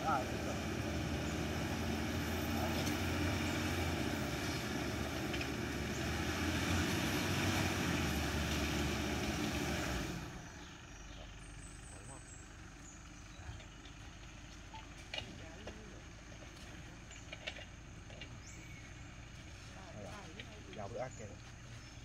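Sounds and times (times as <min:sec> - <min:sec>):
diesel engine working under load: 0:00.0 - 0:22.0.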